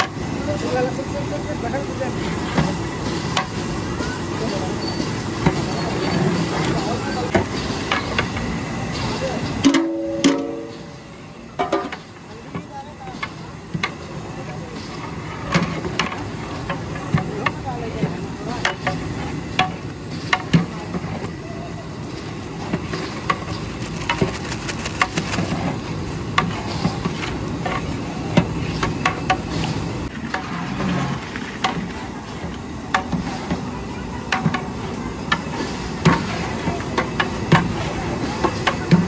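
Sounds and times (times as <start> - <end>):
steady background hiss: 0.0 - 39.0.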